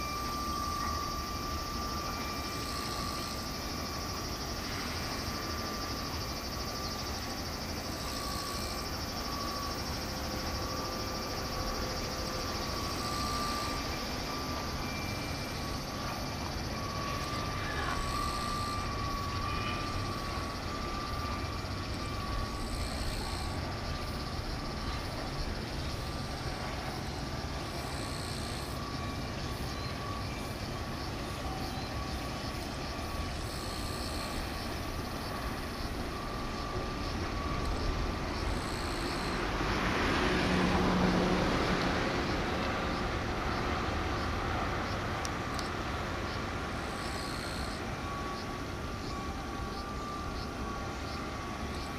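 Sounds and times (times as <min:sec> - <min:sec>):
outdoor background rumble: 0:00.0 - 0:51.9.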